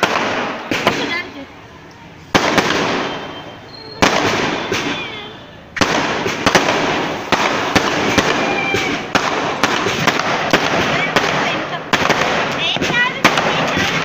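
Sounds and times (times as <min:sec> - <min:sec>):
firecrackers crackling and popping: 0:00.0 - 0:14.0
loud firework bangs with hiss: 0:00.0 - 0:14.0.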